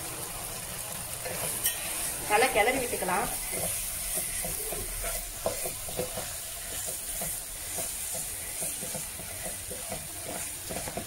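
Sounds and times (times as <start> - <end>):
food sizzling in frying pan: 0.0 - 11.0
wooden spatula scraping pan: 1.2 - 11.0.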